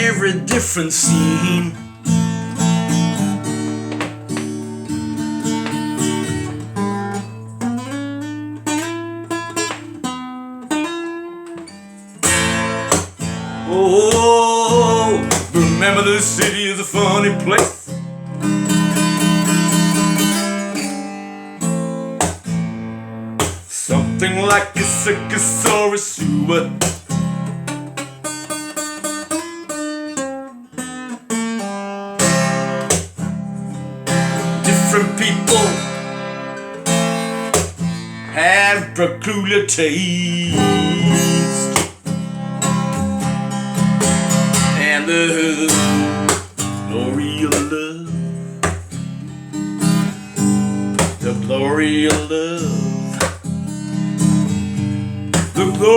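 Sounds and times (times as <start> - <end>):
picked and strummed guitar: 0.0 - 55.9.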